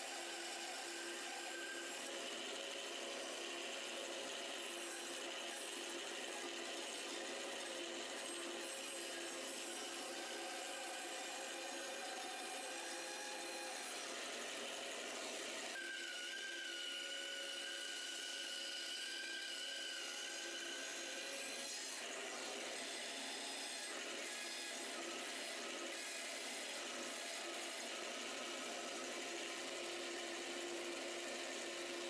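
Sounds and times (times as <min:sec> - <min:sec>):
band saw cutting wood: 0:00.0 - 0:32.0.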